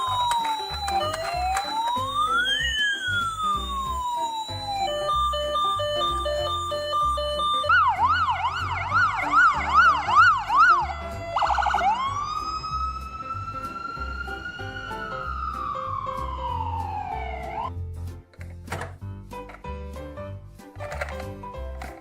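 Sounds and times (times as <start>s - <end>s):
electronic emergency vehicle siren: 0.0s - 17.7s.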